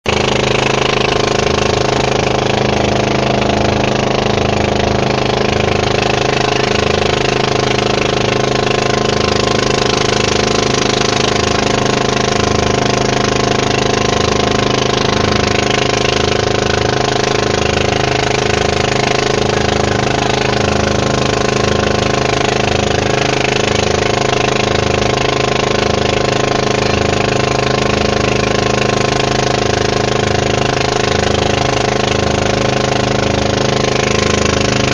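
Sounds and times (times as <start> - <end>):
boat engine droning: 0.0 - 34.9.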